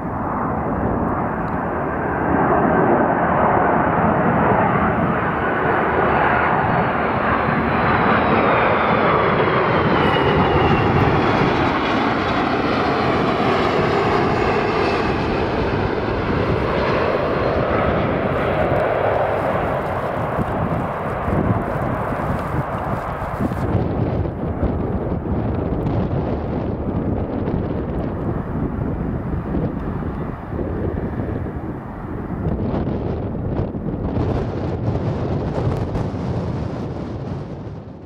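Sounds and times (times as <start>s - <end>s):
jet airliner passing overhead: 0.0s - 38.0s.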